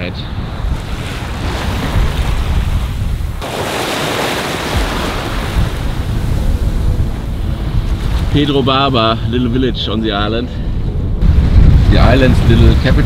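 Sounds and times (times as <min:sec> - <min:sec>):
sea water rushing: 0:00.0 - 0:13.0
wind buffeting microphone: 0:00.0 - 0:13.0.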